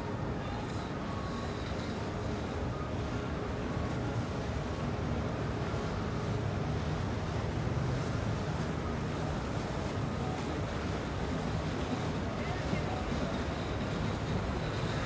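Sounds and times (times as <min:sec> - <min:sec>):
motorboat engine rumble: 0:00.0 - 0:15.0
water wash: 0:00.6 - 0:15.0.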